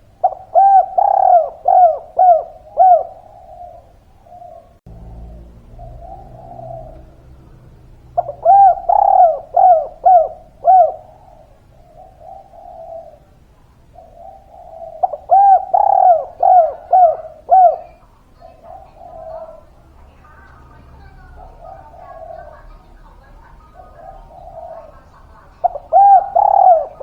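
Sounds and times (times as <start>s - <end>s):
dove cooing: 0.0s - 27.0s.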